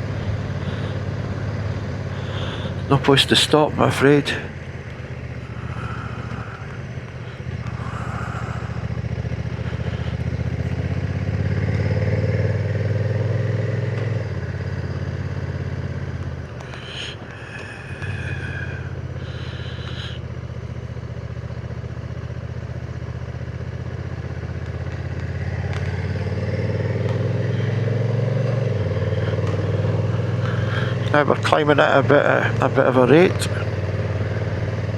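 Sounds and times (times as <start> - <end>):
motorcycle engine pulling: 0.0 - 34.9.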